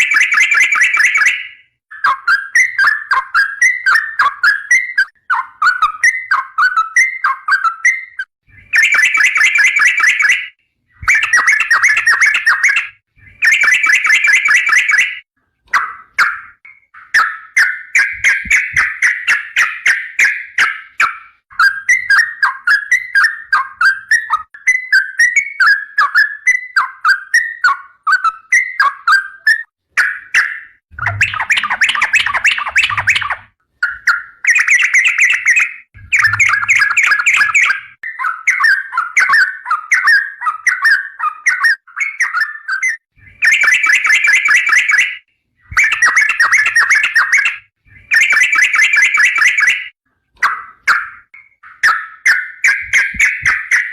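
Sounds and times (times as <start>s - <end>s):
bulbul singing whistled notes: 0.0s - 53.9s.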